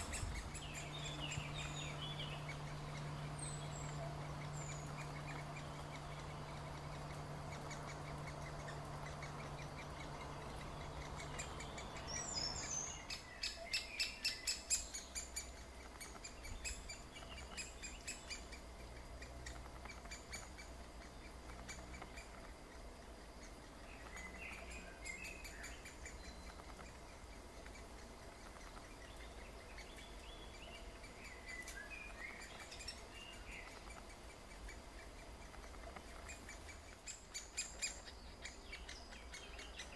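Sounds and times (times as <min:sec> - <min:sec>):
faint bird chirps: 0:00.0 - 0:39.9
steady low hum: 0:00.0 - 0:39.9
woodpeckers calling: 0:00.0 - 0:39.9.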